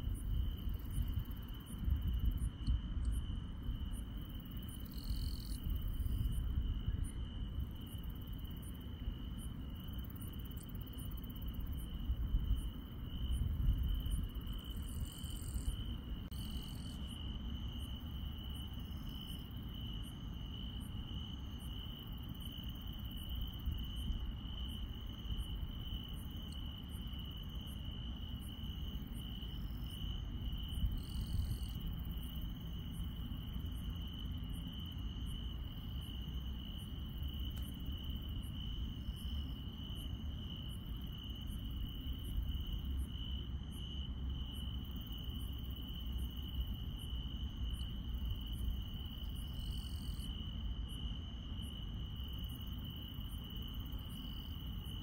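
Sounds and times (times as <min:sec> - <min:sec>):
faint insect ticking: 0:00.1 - 0:55.0.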